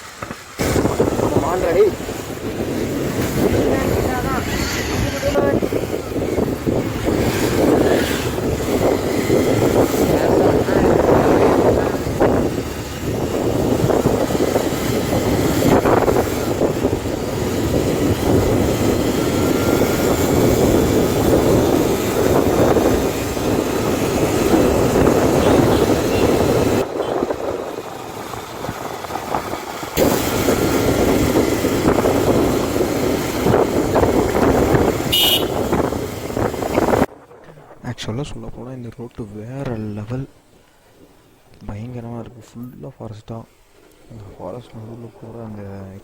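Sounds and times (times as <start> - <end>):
motorcycle running: 0.0 - 37.2
wind rushing over microphone: 0.0 - 40.4.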